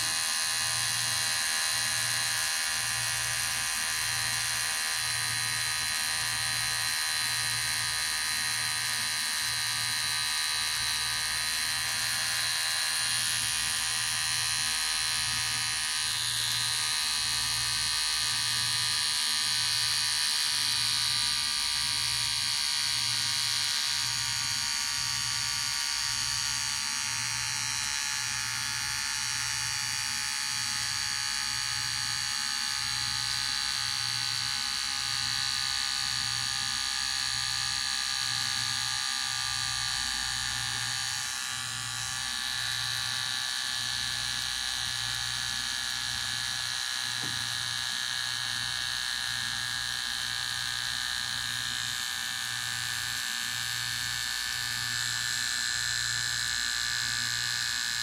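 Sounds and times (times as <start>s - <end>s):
electric hair clipper buzzing: 0.0s - 58.0s.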